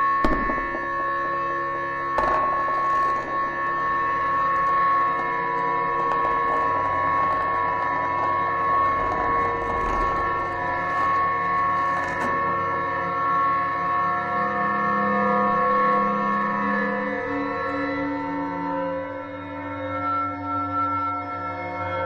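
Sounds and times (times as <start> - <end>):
ambient drone music: 0.0 - 22.0.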